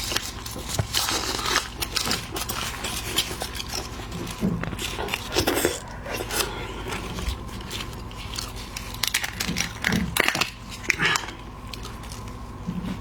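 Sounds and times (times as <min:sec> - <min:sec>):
shrimp shell crackling and crunching: 0:00.0 - 0:13.0.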